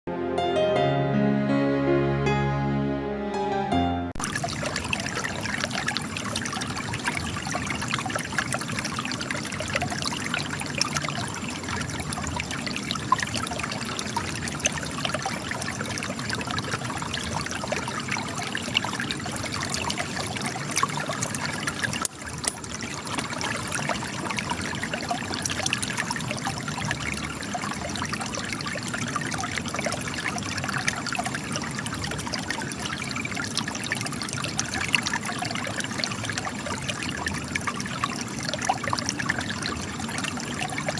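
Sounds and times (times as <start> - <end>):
spring water trickling and gushing: 4.2 - 40.9.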